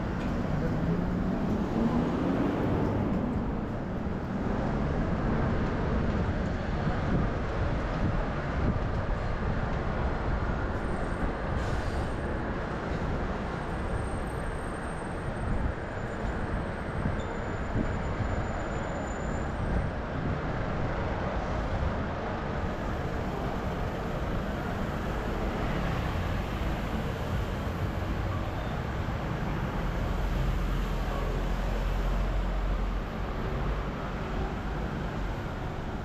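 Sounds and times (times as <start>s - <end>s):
city street traffic rumble: 0.0s - 36.0s.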